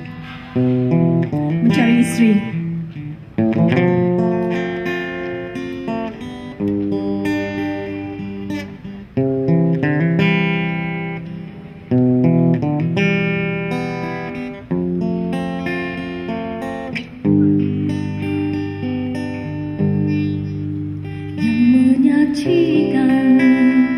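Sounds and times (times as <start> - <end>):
acoustic guitar strumming chords: 0.0 - 23.9
plucked guitar notes: 0.0 - 23.9.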